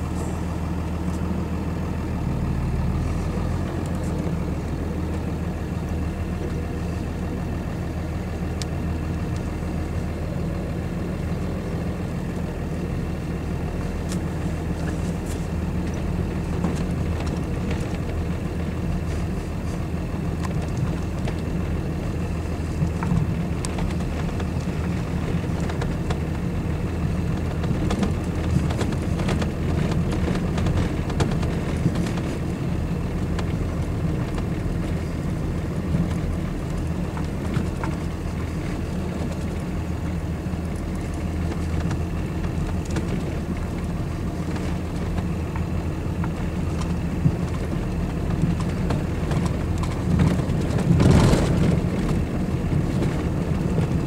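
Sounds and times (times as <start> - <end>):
truck engine humming: 0.0 - 54.0
tyres rolling over snow: 9.0 - 54.0.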